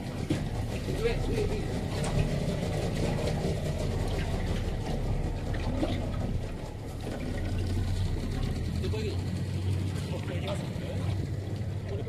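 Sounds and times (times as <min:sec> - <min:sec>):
outboard motor running: 0:00.0 - 0:12.0
water washing along hull: 0:00.0 - 0:12.0.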